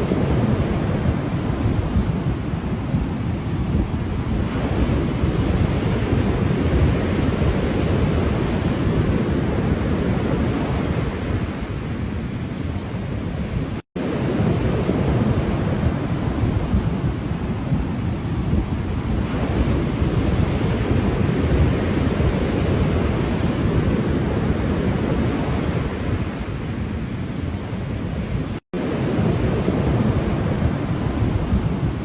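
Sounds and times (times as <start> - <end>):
ocean surf washing: 0.0 - 32.0.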